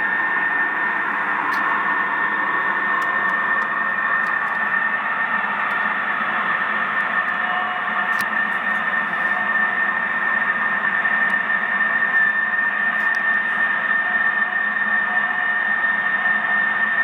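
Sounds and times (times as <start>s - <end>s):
steady droning with high tone: 0.0s - 17.0s.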